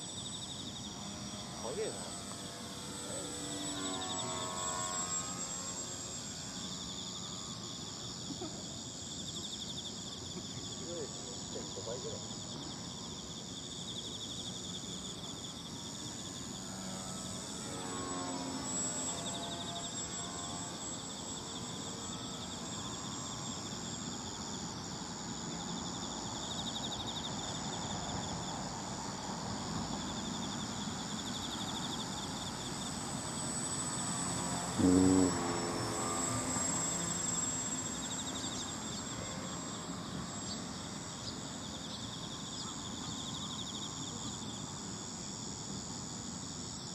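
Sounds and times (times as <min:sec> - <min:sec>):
model aircraft engine passing: 0:00.0 - 0:45.0
insects chirping: 0:00.0 - 0:46.9.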